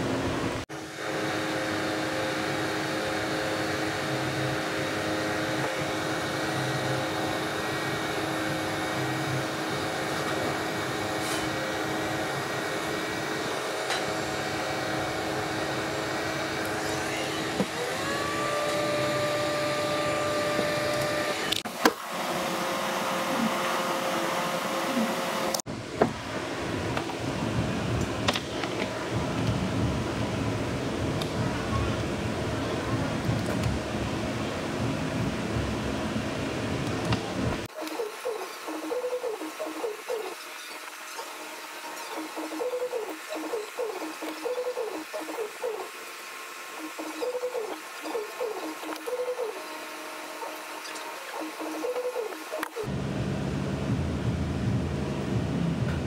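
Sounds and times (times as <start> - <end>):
heat gun fan humming: 0.0 - 31.4, 33.2 - 56.0.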